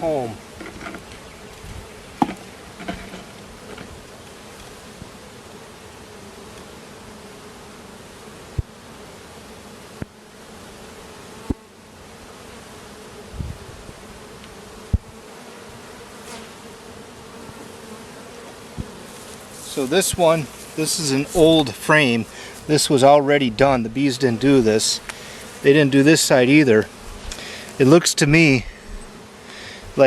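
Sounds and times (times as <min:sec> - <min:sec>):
honeybees humming: 0:00.0 - 0:30.0.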